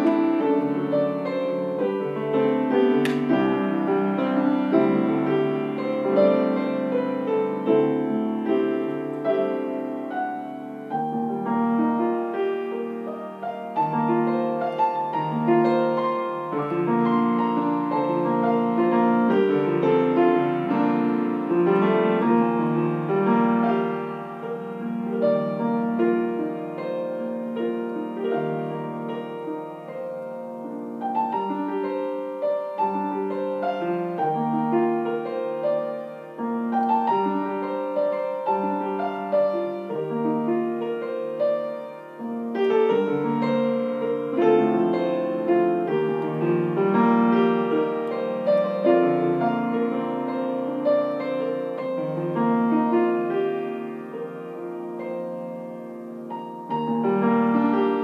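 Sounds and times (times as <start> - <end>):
solo piano piece: 0.0 - 58.0.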